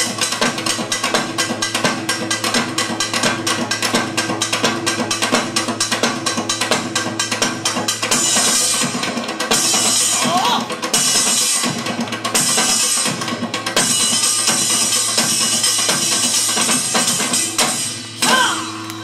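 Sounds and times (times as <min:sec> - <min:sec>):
hourglass drum played fast: 0:00.0 - 0:18.8.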